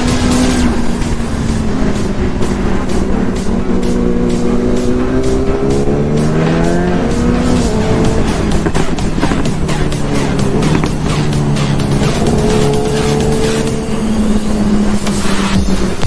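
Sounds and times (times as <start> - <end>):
background music with steady beat: 0.0 - 16.0
motorcycle engine revving: 0.0 - 16.0.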